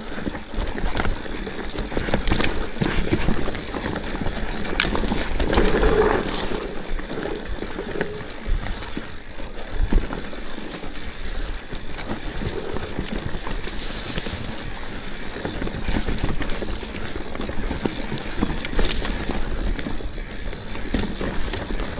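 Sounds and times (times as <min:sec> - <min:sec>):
bike knocks and rattles: 0:00.0 - 0:21.9
bike tyres on dirt: 0:00.0 - 0:21.9.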